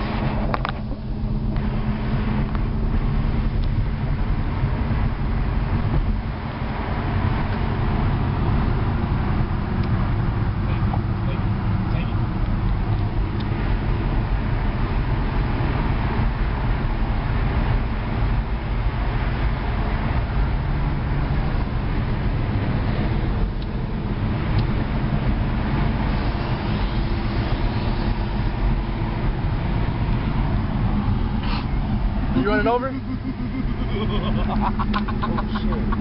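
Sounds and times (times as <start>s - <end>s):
tyre and wind hiss: 0.0s - 32.6s
car engine and road rumble: 0.0s - 36.0s.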